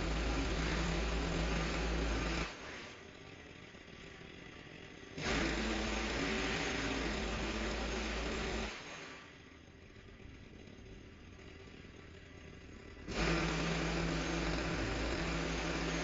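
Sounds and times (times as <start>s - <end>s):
hedge trimmer engine running: 0.0s - 16.0s.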